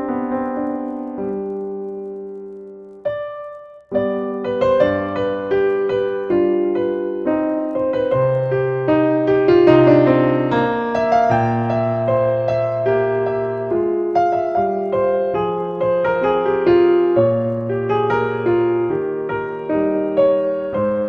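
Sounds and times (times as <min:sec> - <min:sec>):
solo piano melody: 0:00.0 - 0:21.0.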